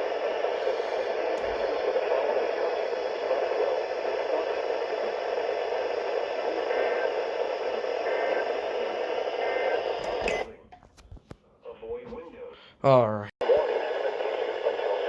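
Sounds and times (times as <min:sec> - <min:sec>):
radio static hiss: 0:00.0 - 0:11.0, 0:13.4 - 0:15.0.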